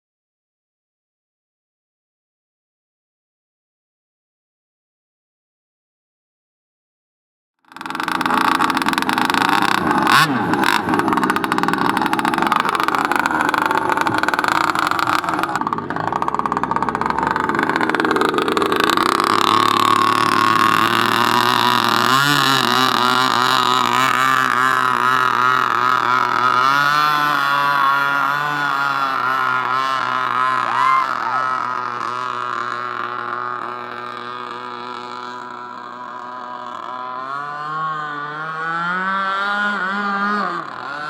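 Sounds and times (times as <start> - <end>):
model boat engine running: 7.6 - 41.0.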